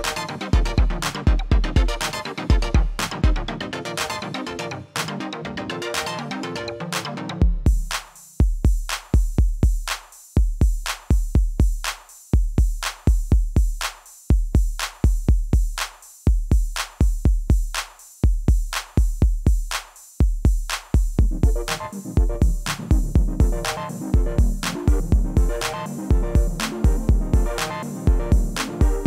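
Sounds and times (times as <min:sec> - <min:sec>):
hi-hat clicks: 0:00.0 - 0:03.4, 0:07.6 - 0:29.0
kick drums: 0:00.0 - 0:03.6, 0:07.4 - 0:29.0.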